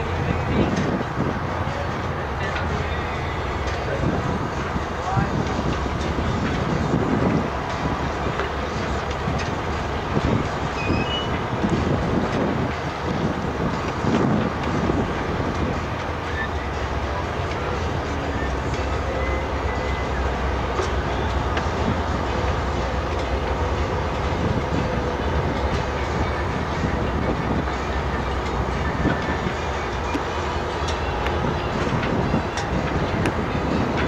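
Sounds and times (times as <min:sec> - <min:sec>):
boat diesel engine rumbling: 0:00.0 - 0:34.0
wind and water wash: 0:00.0 - 0:34.0.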